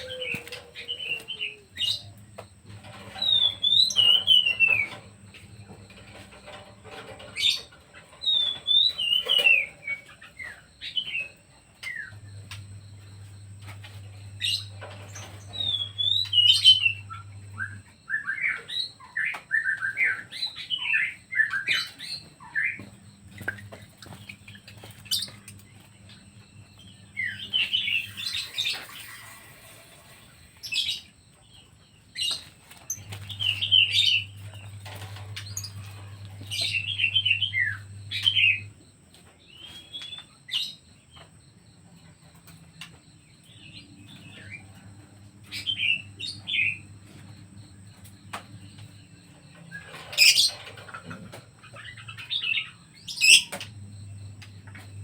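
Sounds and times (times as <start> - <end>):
pet birds chirping: 0.0 - 55.0.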